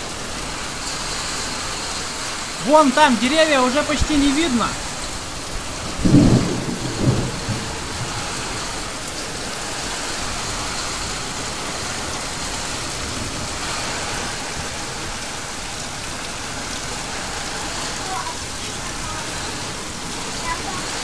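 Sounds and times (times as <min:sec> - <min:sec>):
heavy rain on metal roofs: 0:00.0 - 0:21.0.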